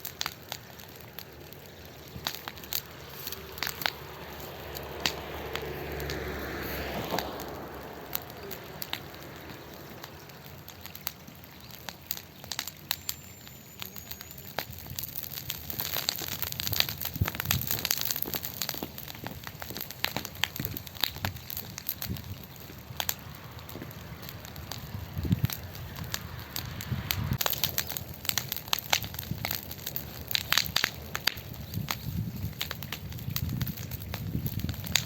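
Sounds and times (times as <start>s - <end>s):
bonfire crackling and popping: 0.0s - 35.0s.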